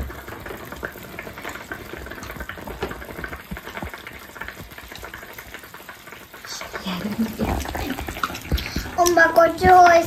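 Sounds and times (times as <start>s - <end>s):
pot bubbling and hissing: 0.0s - 10.0s.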